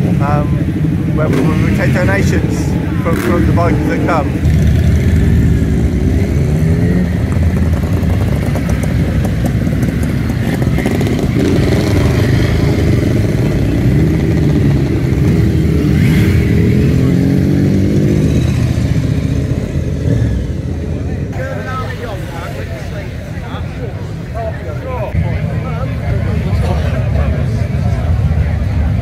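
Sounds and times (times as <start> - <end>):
motorcycles riding past: 0.0 - 29.0.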